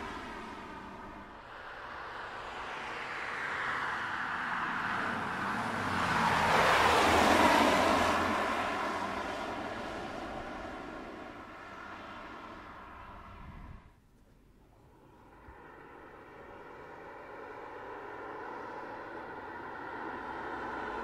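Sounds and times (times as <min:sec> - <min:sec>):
car passing by: 0:00.0 - 0:14.0, 0:14.9 - 0:21.0.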